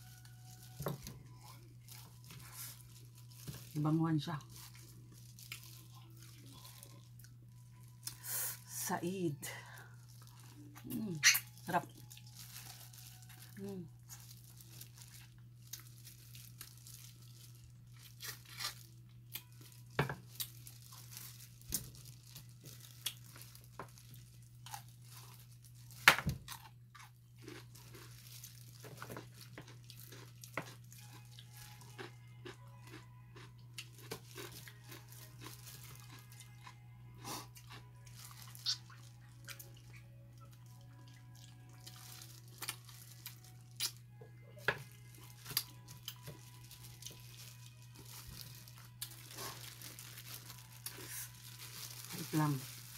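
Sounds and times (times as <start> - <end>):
chewing crunchy fried food: 0.0 - 8.3, 9.4 - 52.9
tearing food by hand: 4.4 - 8.2, 10.1 - 36.8, 37.4 - 40.1, 40.7 - 44.1, 44.8 - 52.9.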